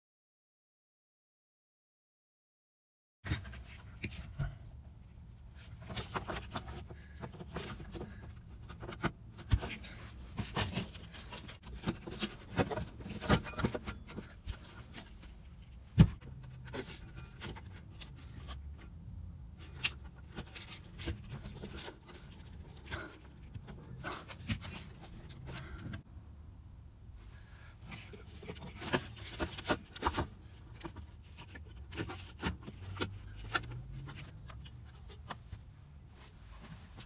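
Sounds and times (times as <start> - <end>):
wires rubbing and rustling: 3.4 - 26.1, 27.7 - 37.0.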